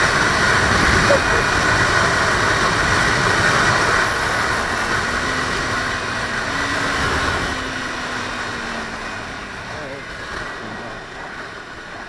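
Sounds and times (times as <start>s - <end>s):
faint motorcycle engine: 0.0s - 12.0s
wind rushing over microphone: 0.0s - 12.0s.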